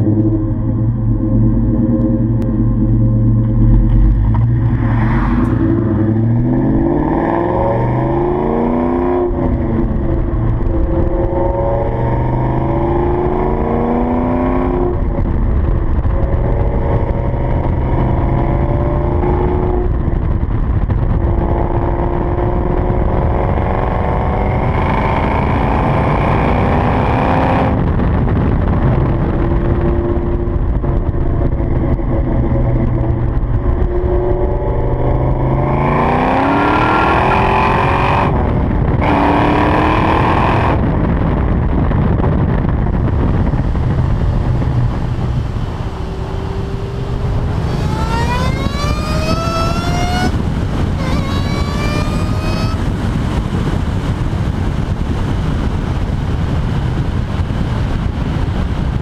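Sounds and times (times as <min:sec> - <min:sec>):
car engine accelerating through gears: 0:00.0 - 0:59.0.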